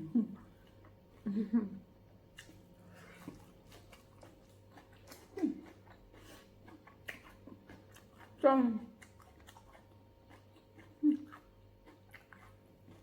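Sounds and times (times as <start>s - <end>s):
faint chewing: 0.0s - 1.5s, 2.2s - 13.0s.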